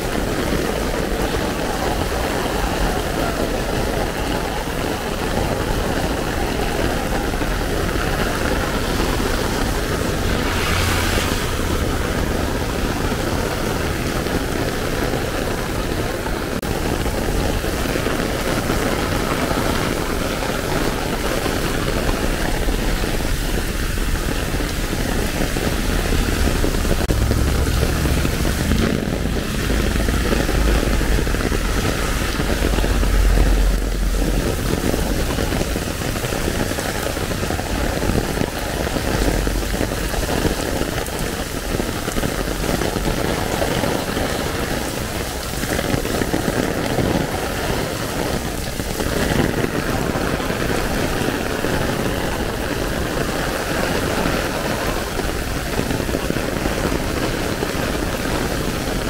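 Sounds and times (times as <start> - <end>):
heavy rain drumming on umbrella: 0.0 - 59.0
low rumble of street traffic: 0.0 - 59.0
rain splashing on street: 0.0 - 59.0.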